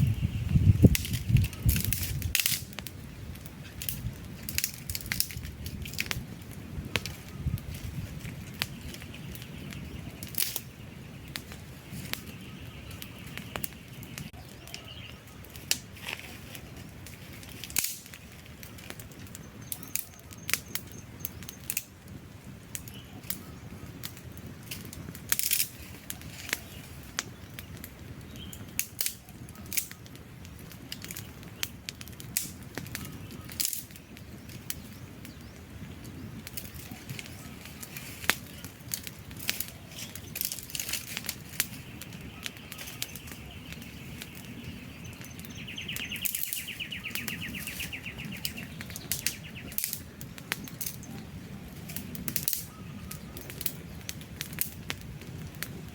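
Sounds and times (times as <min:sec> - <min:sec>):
low rush of flames: 0:00.0 - 0:55.9
logs popping and snapping: 0:00.5 - 0:10.7, 0:11.3 - 0:21.9, 0:22.6 - 0:52.8, 0:53.4 - 0:55.9.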